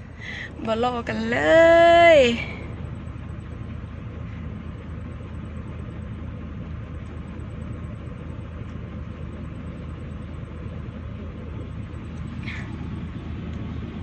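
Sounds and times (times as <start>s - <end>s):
large vehicle engine rumbling: 0.0s - 14.0s.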